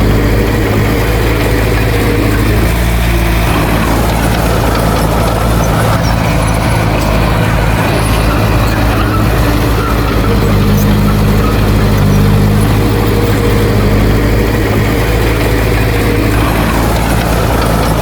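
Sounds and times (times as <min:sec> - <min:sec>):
heavy diesel engine running: 0:00.0 - 0:18.0
higher engine note: 0:00.0 - 0:18.0.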